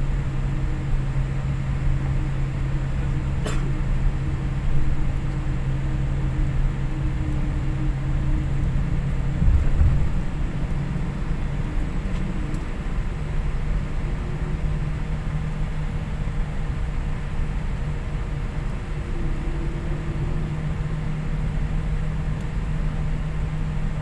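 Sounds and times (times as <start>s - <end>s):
airliner cabin drone: 0.0s - 24.0s.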